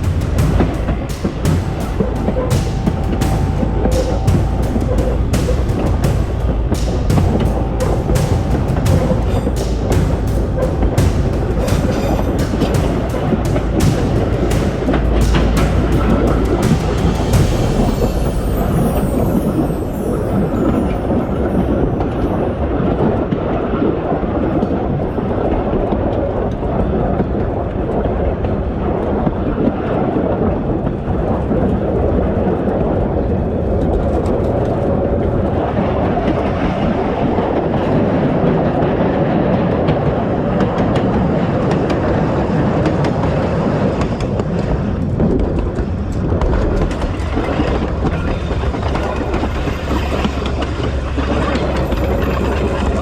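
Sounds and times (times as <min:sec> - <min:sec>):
diesel railcar rumbling: 0:00.0 - 0:53.0.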